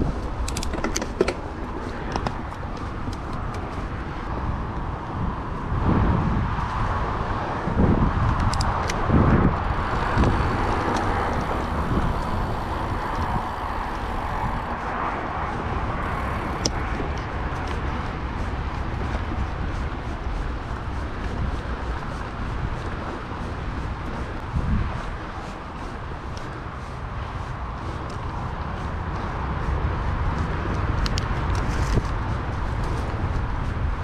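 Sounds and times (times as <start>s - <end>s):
bike clicks and rattles: 0.0s - 5.1s, 7.9s - 34.0s
bike tyres rolling over trail: 0.0s - 34.0s
wind buffeting microphone: 0.0s - 34.0s.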